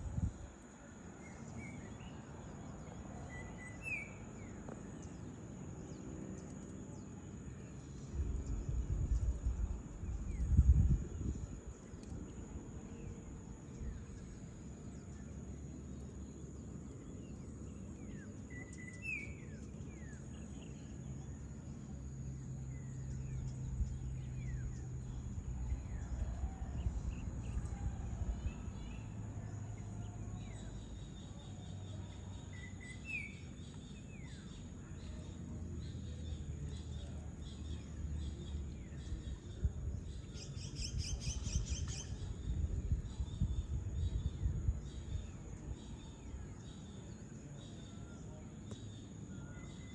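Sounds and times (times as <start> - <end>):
low background rumble: 1.2 - 47.6.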